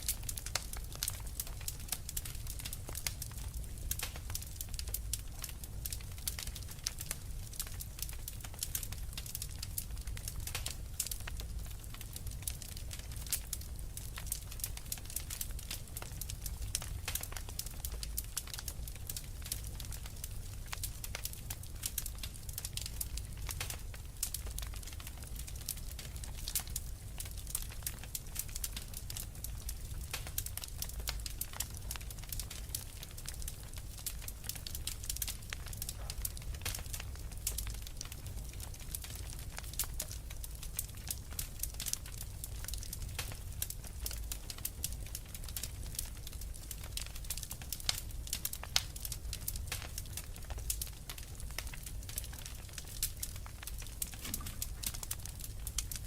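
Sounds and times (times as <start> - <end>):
fire crackling: 0.0 - 56.0
low rumble of fire: 0.0 - 56.0.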